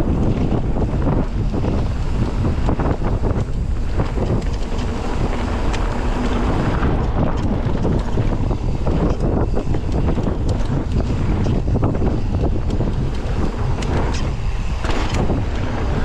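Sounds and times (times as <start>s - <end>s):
bike rattles and clicks: 0.0s - 16.0s
wind buffeting microphone: 0.0s - 16.0s.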